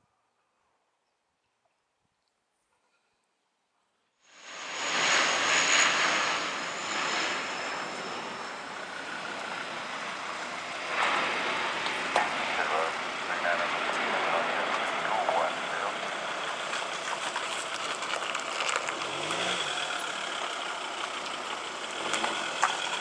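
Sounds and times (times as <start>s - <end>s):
turboprop airplane passing overhead: 4.3s - 23.0s.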